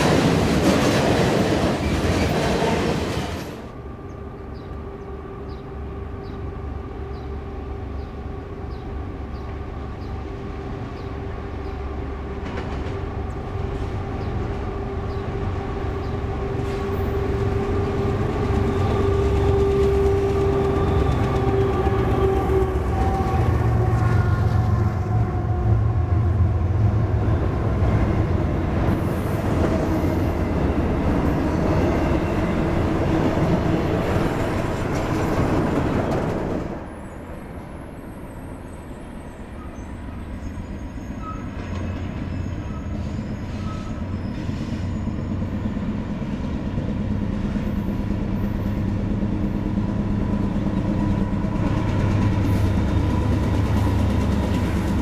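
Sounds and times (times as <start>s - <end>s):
diesel locomotive engines: 0.0s - 55.0s
freight train wheels on rails: 0.0s - 55.0s.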